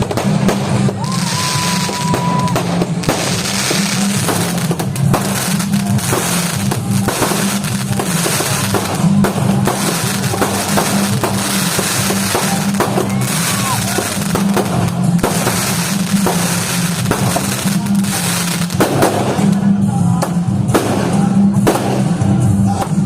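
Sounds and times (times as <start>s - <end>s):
fireworks bangs and crackles: 0.0s - 23.0s
loud music with heavy bass: 0.0s - 23.0s.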